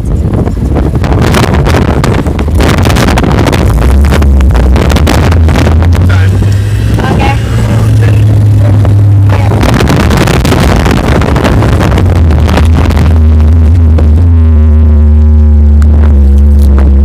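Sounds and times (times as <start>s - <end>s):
wind buffeting microphone: 0.0s - 14.8s
off-road vehicle engine drone: 0.0s - 17.0s.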